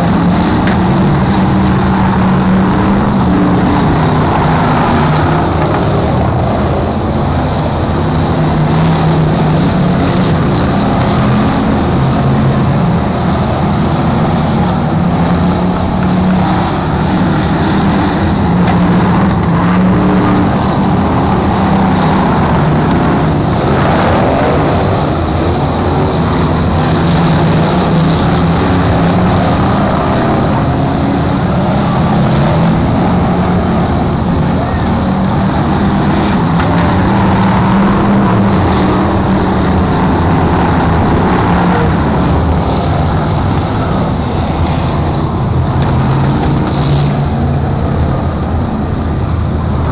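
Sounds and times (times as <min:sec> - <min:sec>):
racing car engines: 0:00.0 - 0:49.9.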